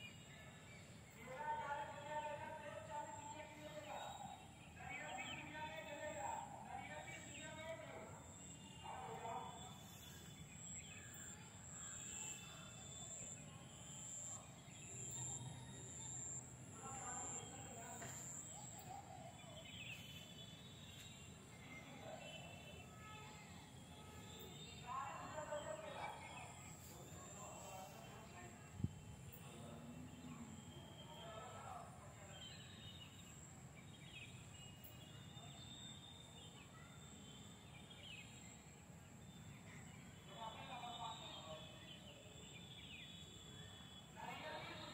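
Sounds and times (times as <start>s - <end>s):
faint bird chirps: 2.9s - 44.9s.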